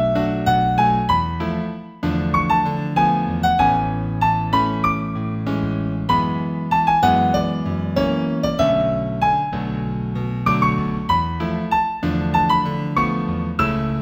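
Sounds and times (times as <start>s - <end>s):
piano instrumental: 0.0s - 14.0s.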